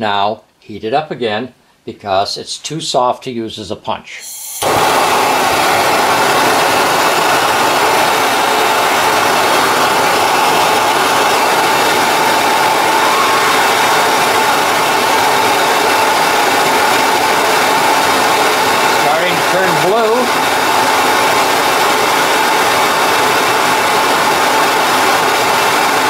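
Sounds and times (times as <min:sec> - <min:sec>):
gas torch flame burning: 0:04.2 - 0:26.0.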